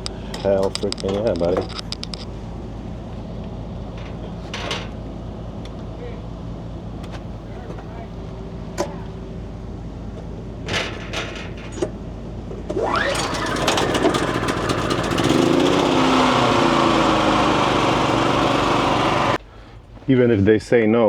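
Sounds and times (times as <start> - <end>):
generator engine starting and running: 0.0 - 20.1.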